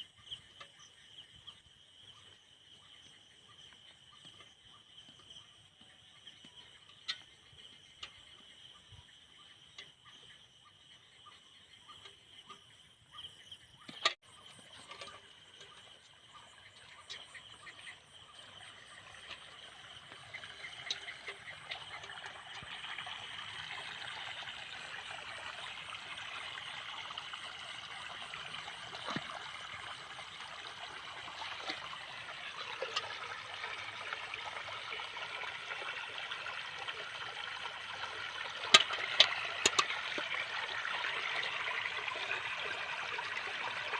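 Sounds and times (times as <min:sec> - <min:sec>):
water trickling and splashing: 0:00.0 - 0:43.9.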